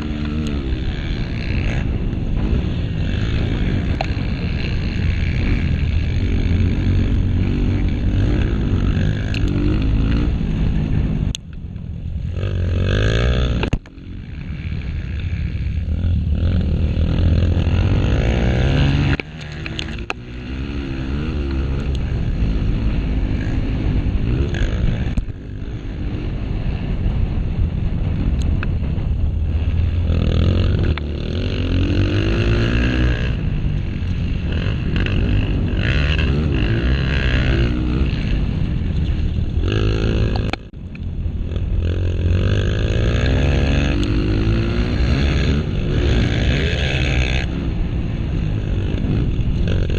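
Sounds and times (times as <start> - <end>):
dirt bike engine revving: 0.0 - 11.4, 12.1 - 49.9.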